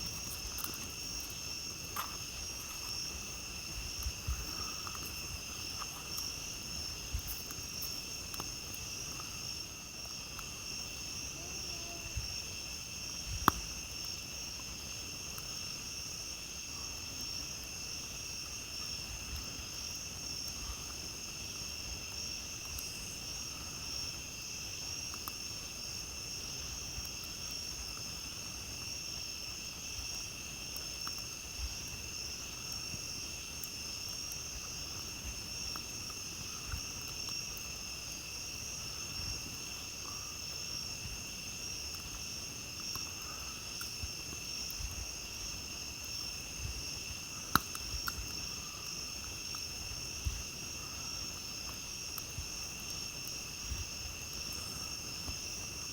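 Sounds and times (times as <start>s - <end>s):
campfire crackles: 0.0s - 55.9s.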